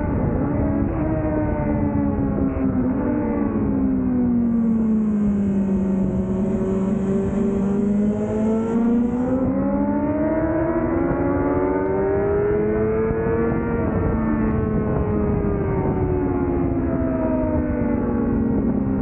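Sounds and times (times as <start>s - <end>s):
motorcycle engine running hard: 0.0s - 19.0s.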